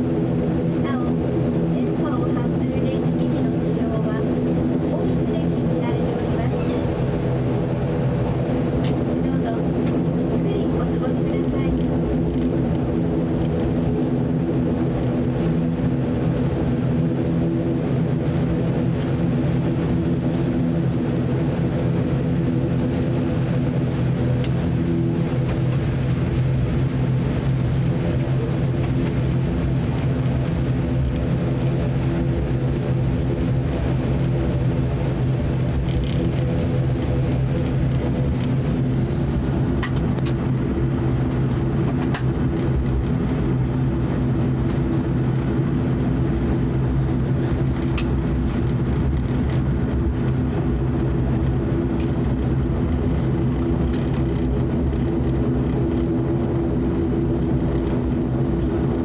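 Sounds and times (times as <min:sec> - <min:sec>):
airliner engine drone in cabin: 0:00.0 - 0:59.0.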